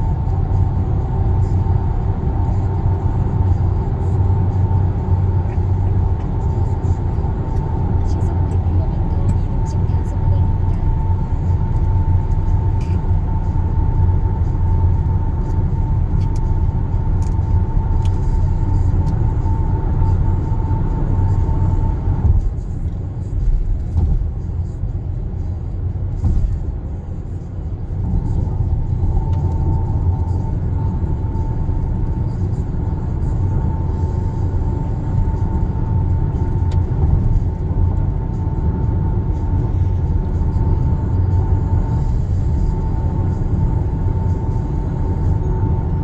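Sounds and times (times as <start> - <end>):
tyre and engine rumble in car: 0.0 - 46.0.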